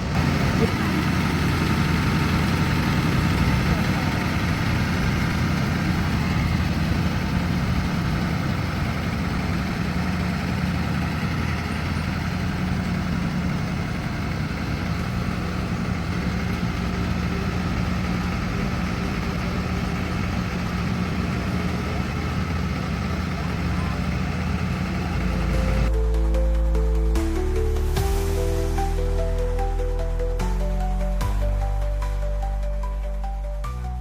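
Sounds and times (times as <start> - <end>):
bus engine idling: 0.0 - 34.0.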